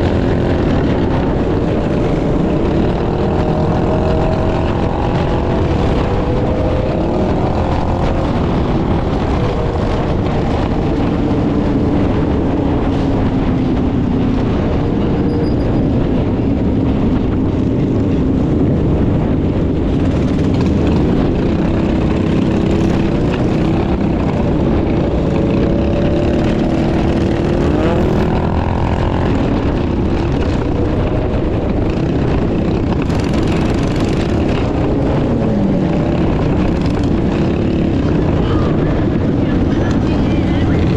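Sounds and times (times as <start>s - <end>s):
mini bike engines revving: 0.0s - 40.9s
wind rumble on microphone: 0.0s - 40.9s.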